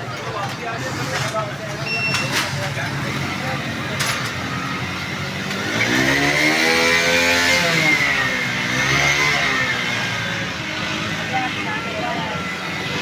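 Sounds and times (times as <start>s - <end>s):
motorcycle engine revving: 2.4s - 13.0s.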